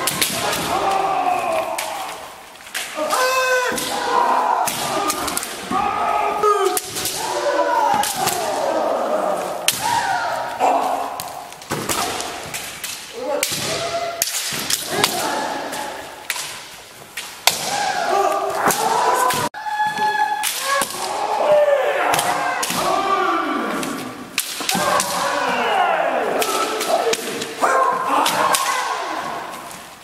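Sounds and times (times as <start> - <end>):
players shouting kiai: 0.0 - 12.5, 13.1 - 16.2, 17.4 - 29.7.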